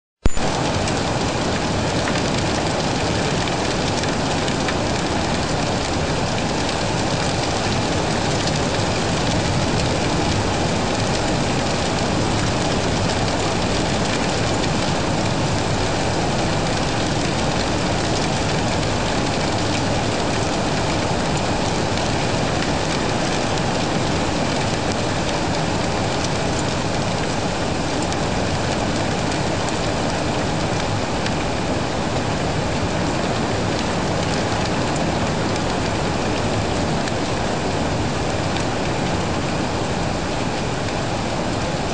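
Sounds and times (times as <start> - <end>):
heavy rain: 0.3 - 41.9.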